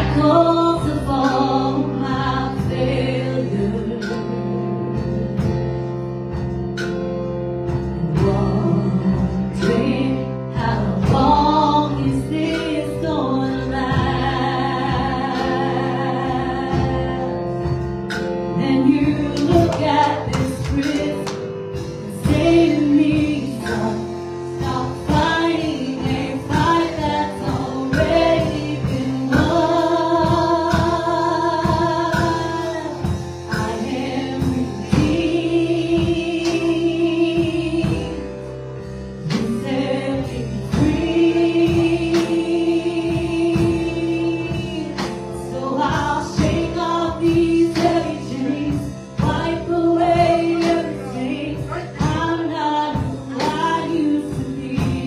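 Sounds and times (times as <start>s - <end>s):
drum kit and cymbals: 0.0s - 55.0s
sustained keyboard chords: 0.0s - 55.0s.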